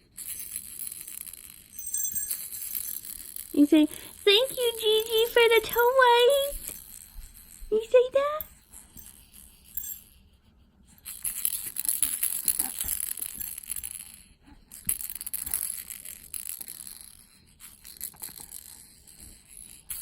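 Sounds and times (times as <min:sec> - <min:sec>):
baby rattle jingling: 0:00.0 - 0:10.1, 0:11.0 - 0:20.0.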